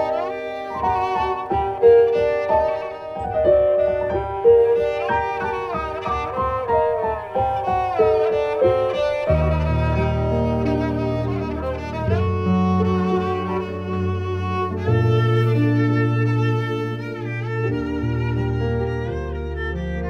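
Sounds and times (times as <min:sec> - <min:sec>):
bowed fiddle melody: 0:00.0 - 0:20.0.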